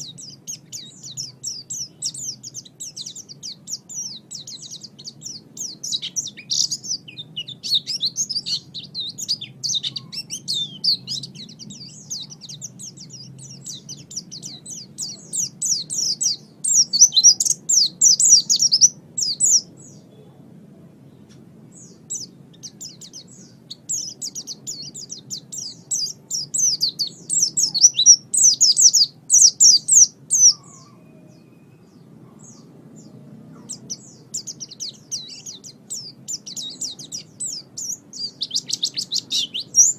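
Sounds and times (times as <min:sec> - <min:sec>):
bird twittering song: 0:00.0 - 0:20.4, 0:21.1 - 0:39.9
faint low hum: 0:00.0 - 0:39.9.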